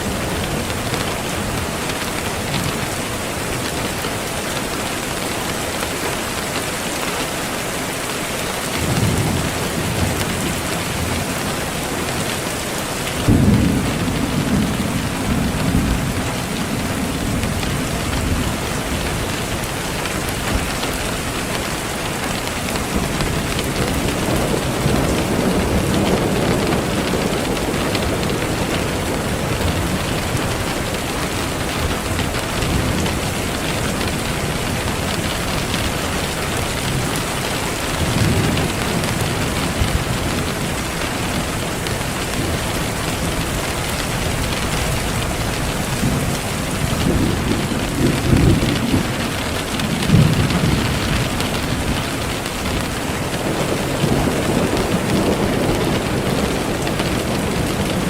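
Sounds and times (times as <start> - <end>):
steady rain: 0.0 - 58.0
rolling thunder: 8.7 - 21.9, 22.6 - 58.0.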